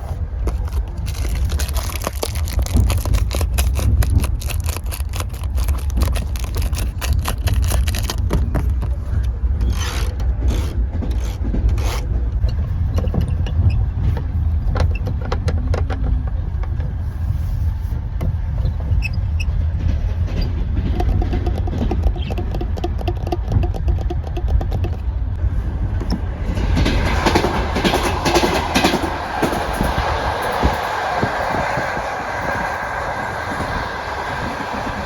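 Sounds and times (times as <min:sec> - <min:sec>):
train running low rumble: 0:00.0 - 0:35.0.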